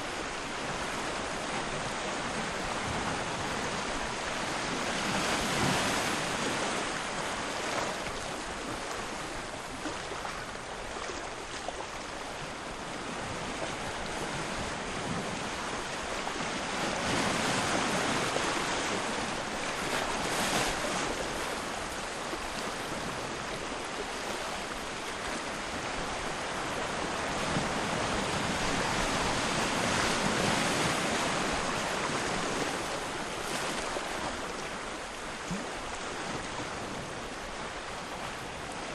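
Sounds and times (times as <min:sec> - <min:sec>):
waves washing in: 0:00.0 - 0:38.9.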